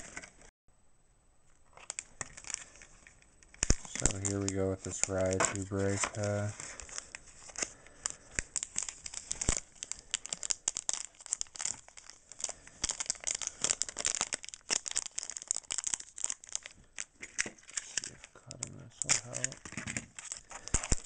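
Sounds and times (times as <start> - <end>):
plastic wrapper crinkling and tearing: 1.7 - 21.0.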